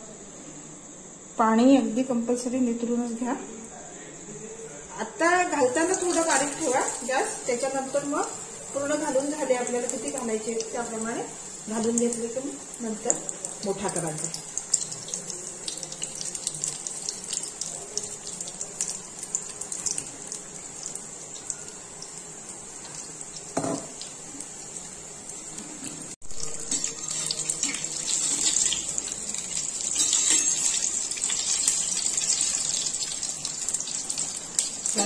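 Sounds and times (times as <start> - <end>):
food sizzling in hot oil: 5.2 - 35.0.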